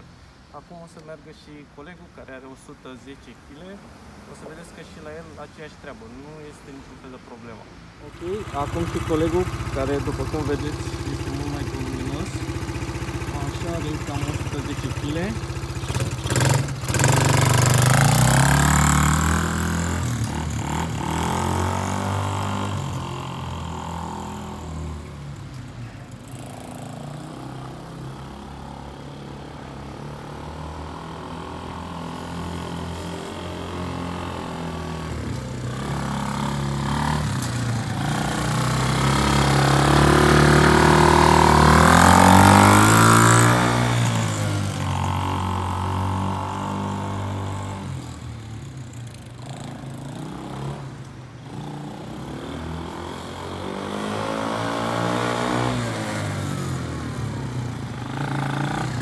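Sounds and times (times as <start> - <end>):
quad bike engine revving: 8.0 - 25.2, 26.2 - 59.0.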